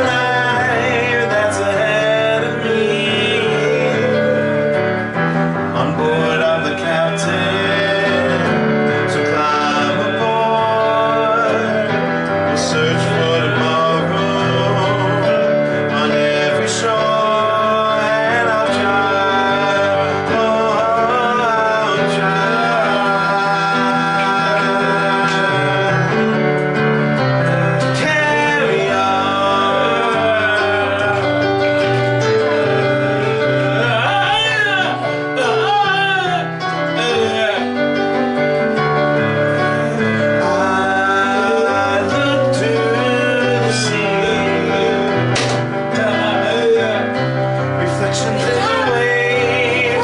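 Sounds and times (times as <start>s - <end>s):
guitar and keyboard: 0.0s - 50.0s
man singing: 0.0s - 50.0s.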